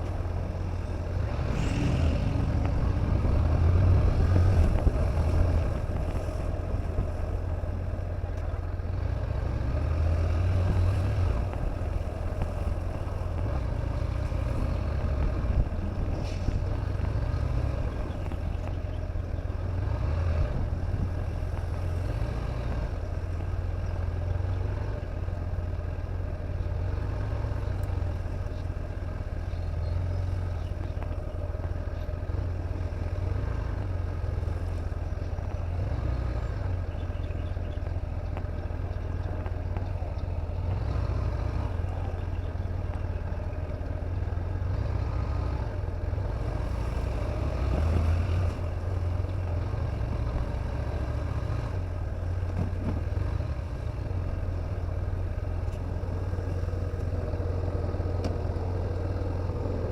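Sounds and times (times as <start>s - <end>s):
vehicle low rumble: 0.0s - 59.9s.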